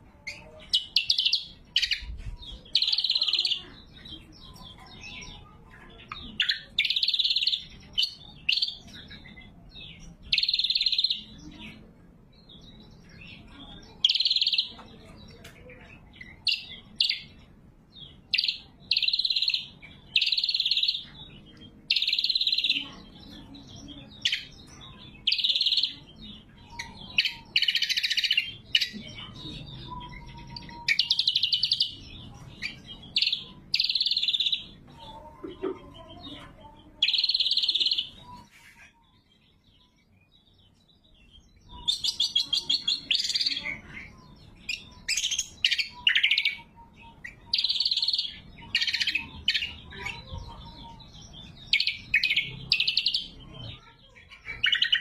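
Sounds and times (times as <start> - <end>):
bird singing sharp phrases: 0.0 - 55.0.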